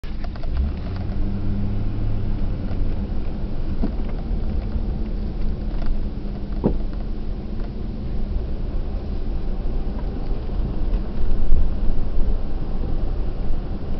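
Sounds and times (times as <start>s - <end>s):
car engine and tyre rumble: 0.0s - 13.9s.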